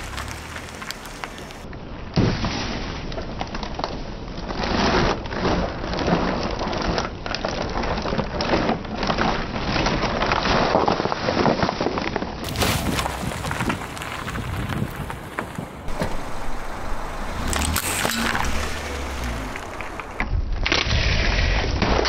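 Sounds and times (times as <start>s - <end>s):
plastic bottles crunching under tyre: 0.0s - 1.7s, 3.4s - 20.2s.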